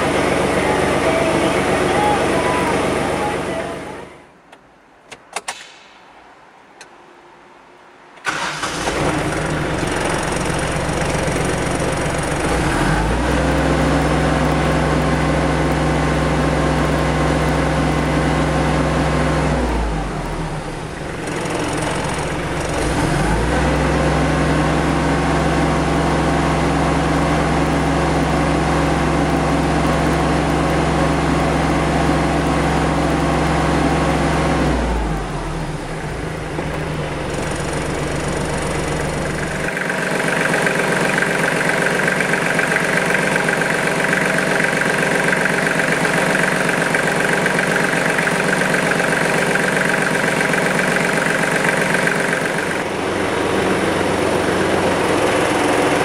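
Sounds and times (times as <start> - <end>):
tractor diesel engine running: 0.0 - 4.2, 8.2 - 56.0.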